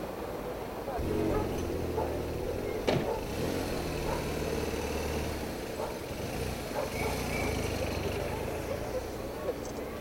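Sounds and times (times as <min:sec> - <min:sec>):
faint voices: 0:00.4 - 0:10.0
car engines humming: 0:00.9 - 0:10.0.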